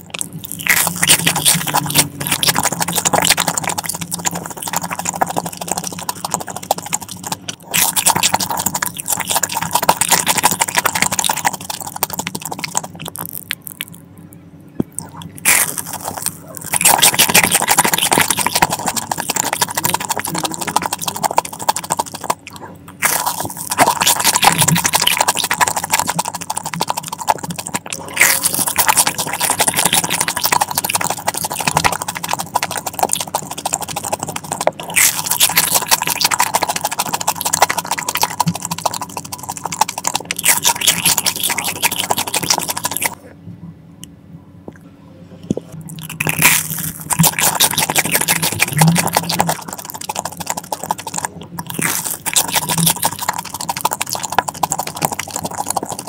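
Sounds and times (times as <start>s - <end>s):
crunchy chewing: 0.0s - 14.1s, 14.8s - 43.3s, 45.8s - 56.0s.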